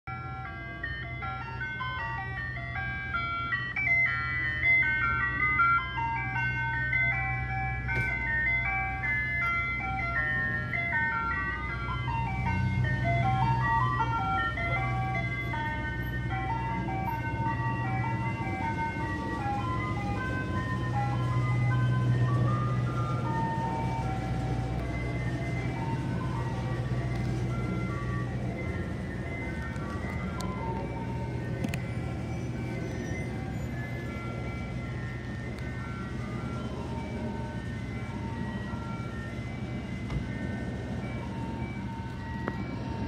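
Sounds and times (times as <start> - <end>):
ice cream truck jingle: 0.0 - 43.0
low truck hum: 0.1 - 43.0.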